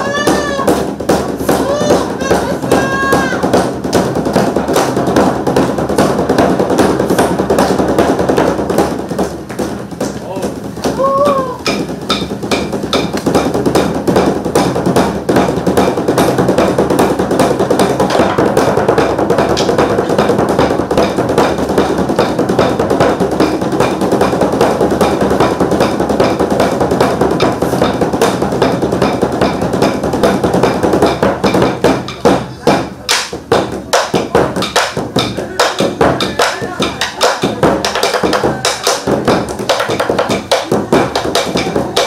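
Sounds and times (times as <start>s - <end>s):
barrel drums beaten fast: 0.0s - 42.0s.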